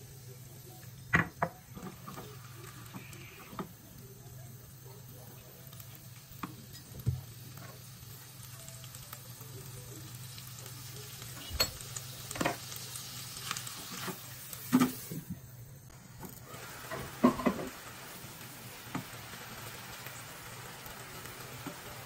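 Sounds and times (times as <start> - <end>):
chicken sizzling in a frying pan: 0.0 - 22.0.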